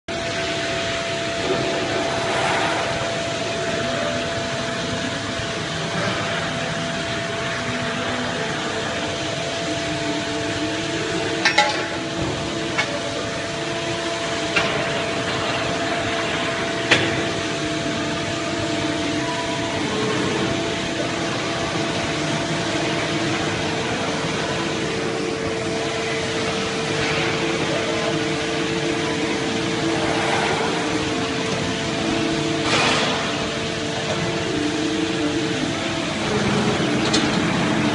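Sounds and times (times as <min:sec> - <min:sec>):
machine humming: 0:00.1 - 0:37.9.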